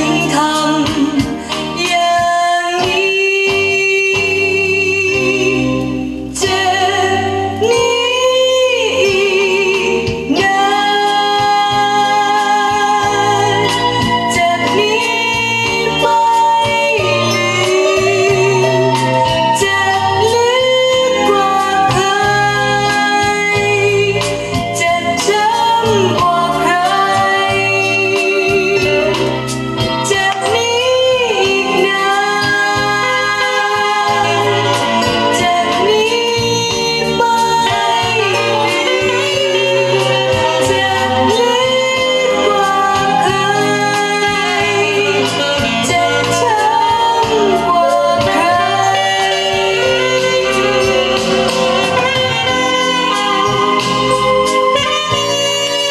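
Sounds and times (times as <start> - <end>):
song with singing and instruments: 0.0 - 55.9.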